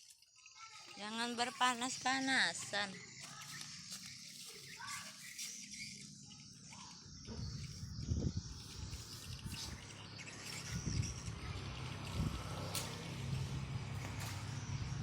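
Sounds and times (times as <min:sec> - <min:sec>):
swiftlets chirping: 0:00.8 - 0:14.9.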